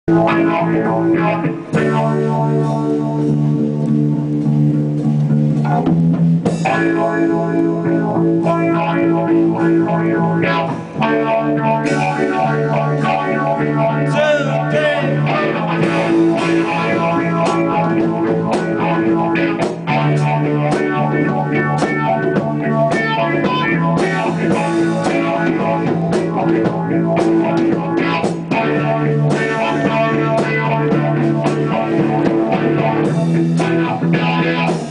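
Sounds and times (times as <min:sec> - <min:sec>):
live rock electric guitars: 0:00.1 - 0:34.9.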